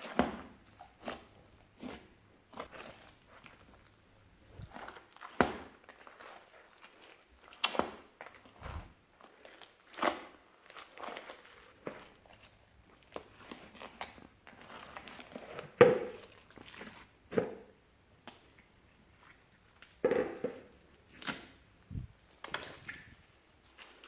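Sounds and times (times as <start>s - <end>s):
slime squelching by hand: 0.0s - 24.0s.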